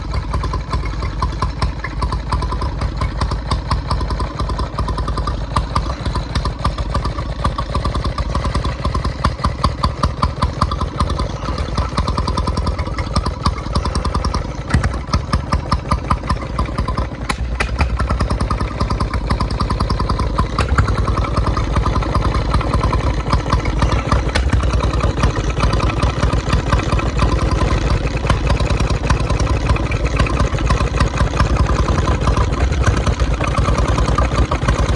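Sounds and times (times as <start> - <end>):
engine chuffing steadily: 0.0 - 34.9.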